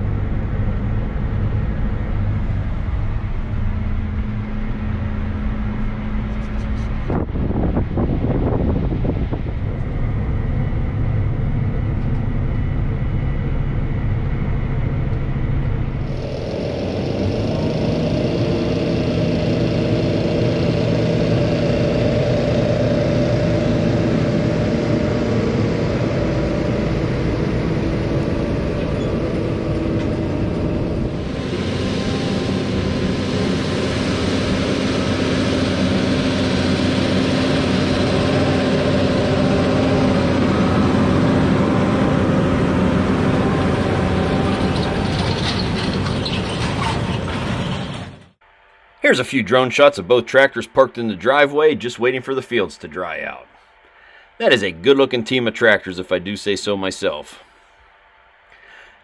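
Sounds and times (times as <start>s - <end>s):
tractor diesel engines running: 0.0s - 48.4s.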